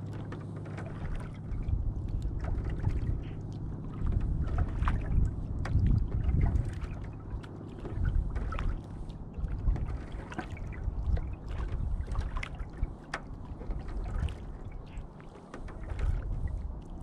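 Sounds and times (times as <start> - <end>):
paddle splashing in water: 0.0 - 17.0
steady low rumble: 0.0 - 17.0
paddle knocks: 0.1 - 16.6.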